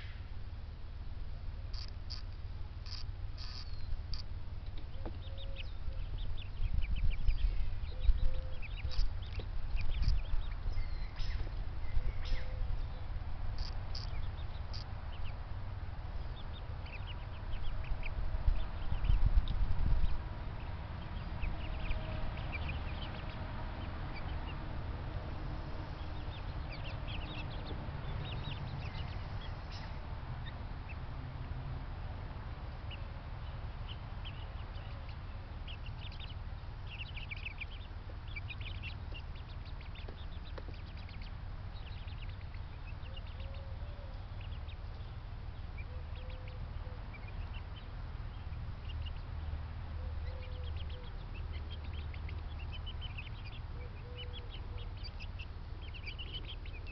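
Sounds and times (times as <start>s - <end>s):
steady low rumble: 0.0s - 56.9s.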